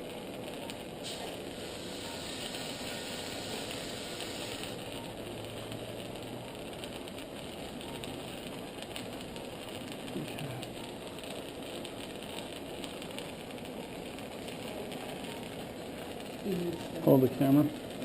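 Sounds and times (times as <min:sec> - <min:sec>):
equipment hum and hiss: 0:00.0 - 0:18.0.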